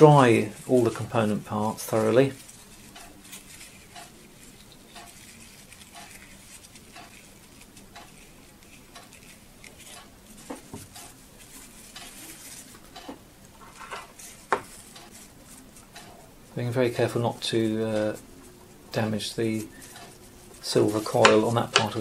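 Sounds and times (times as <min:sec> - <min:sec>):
paper tissue rustling: 0:00.0 - 0:22.0.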